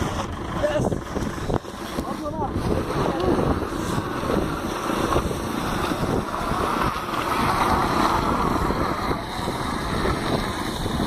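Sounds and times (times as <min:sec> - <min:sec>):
blizzard wind buffeting microphone: 0:00.0 - 0:11.0.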